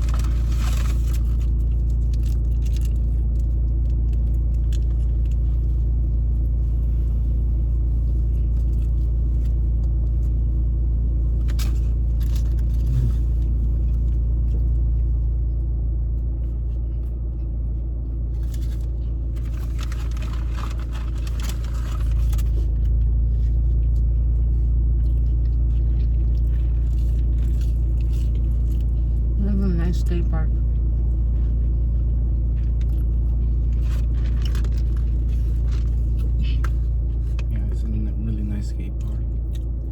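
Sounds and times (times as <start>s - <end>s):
car low rumble: 0.0s - 39.9s.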